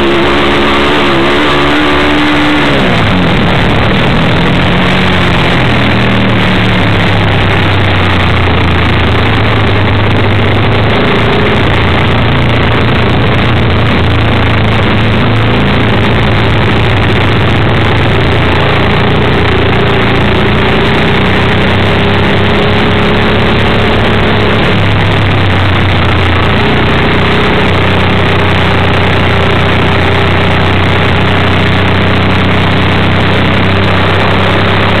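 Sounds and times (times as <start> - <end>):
motorcycle engine revving: 0.0 - 35.0
wind noise: 0.0 - 35.0.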